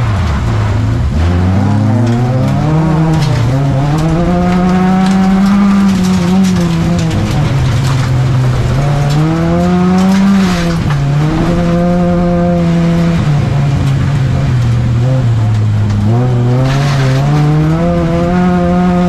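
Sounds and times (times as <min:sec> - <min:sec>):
car engine revving hard: 0:00.0 - 0:19.0
tyre and road noise: 0:00.0 - 0:19.0.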